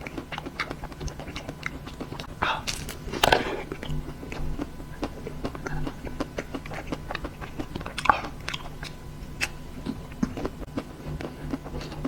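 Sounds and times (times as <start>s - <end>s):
chewing and crunching ice cream bar: 0.0s - 12.0s.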